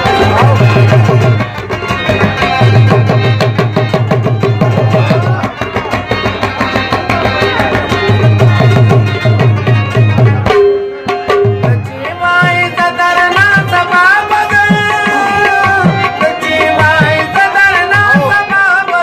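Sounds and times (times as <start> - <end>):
tabla rhythm: 0.0 - 19.0.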